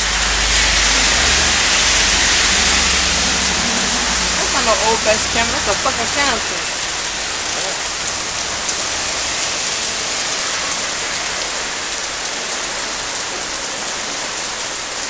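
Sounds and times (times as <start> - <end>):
heavy rain on street: 0.0 - 15.0.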